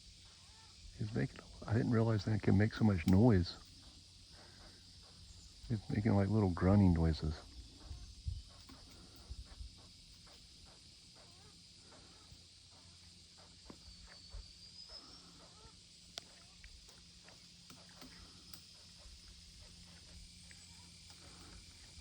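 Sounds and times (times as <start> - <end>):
outdoor background hum: 0.0 - 22.0
woodpecker soft grunting: 0.6 - 22.0.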